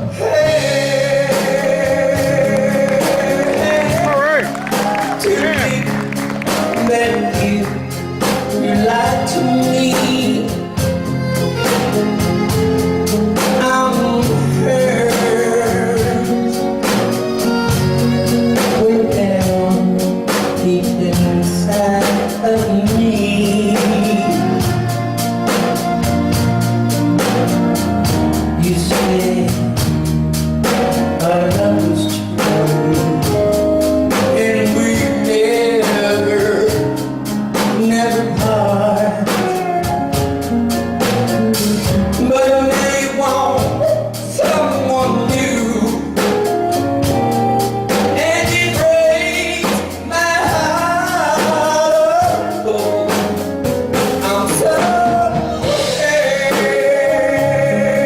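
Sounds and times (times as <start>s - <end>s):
band music with drumbeat: 0.0s - 58.0s
person singing: 0.0s - 58.0s.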